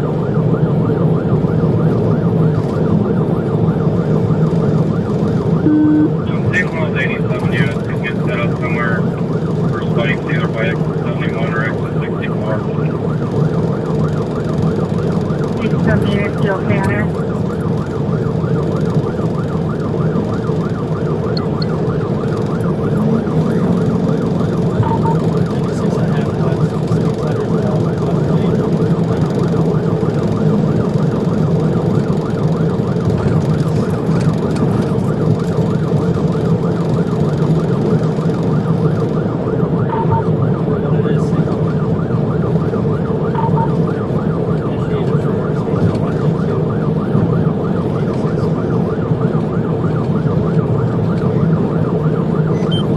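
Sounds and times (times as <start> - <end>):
car engine and road noise: 0.0 - 52.9
police siren yelping: 0.0 - 52.9.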